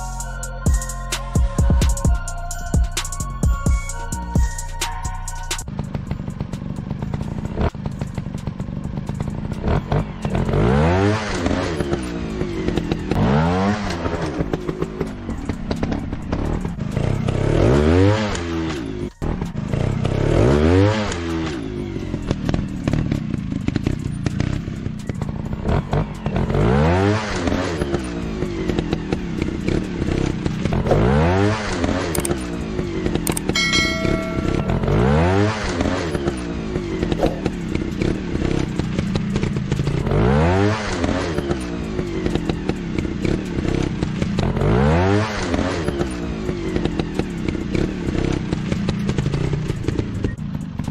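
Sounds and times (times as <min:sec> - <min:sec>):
motorcycle engine revving: 0:03.2 - 0:50.9.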